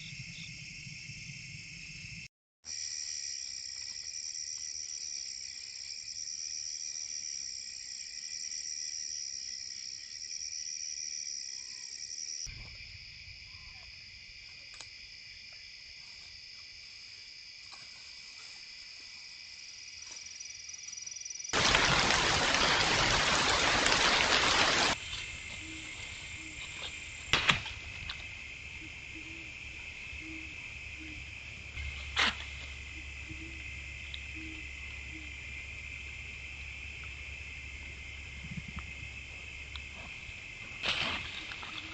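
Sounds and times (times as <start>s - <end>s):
night insects trilling: 0.0s - 41.9s.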